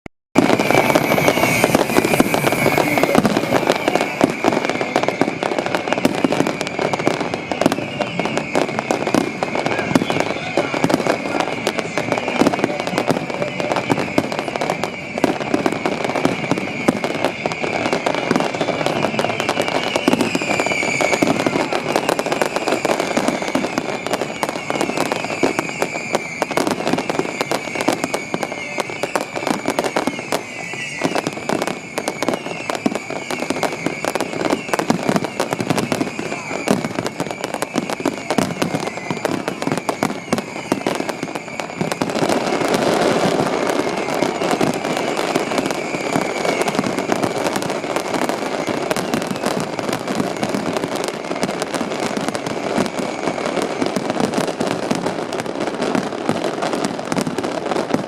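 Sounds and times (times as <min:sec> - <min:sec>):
fireworks exploding and crackling: 0:00.3 - 0:58.0
firework whistle: 0:00.4 - 0:58.0.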